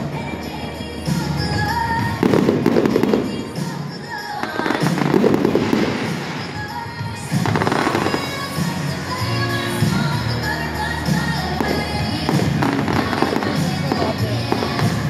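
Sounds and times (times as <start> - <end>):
fireworks bursting and crackling: 0.0 - 15.0
music: 0.0 - 15.0.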